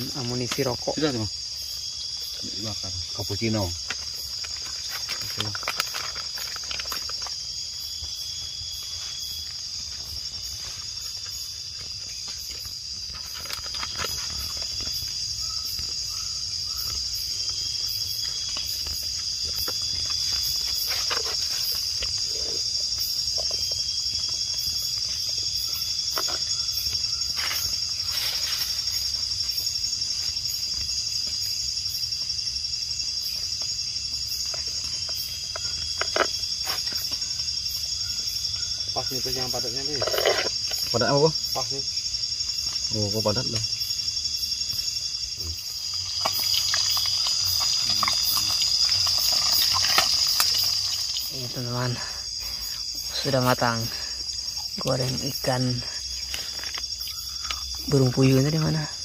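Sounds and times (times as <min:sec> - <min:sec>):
night insects chorus: 0:00.0 - 0:59.0.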